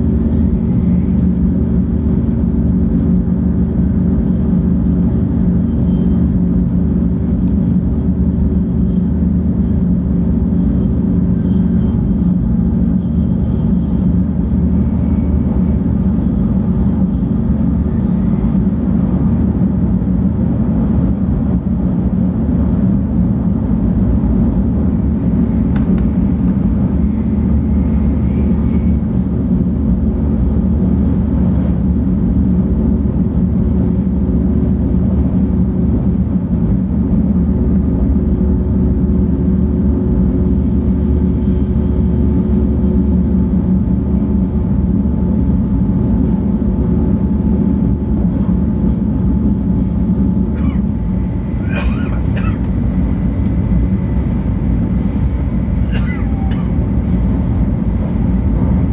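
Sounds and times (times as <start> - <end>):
train interior low rumble: 0.0 - 58.9.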